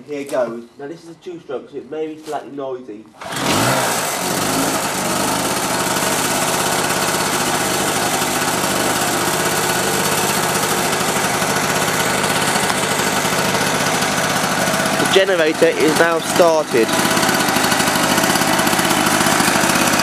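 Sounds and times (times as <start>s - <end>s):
generator engine starting and running: 3.2s - 20.0s
recoil starter pull: 3.2s - 20.0s.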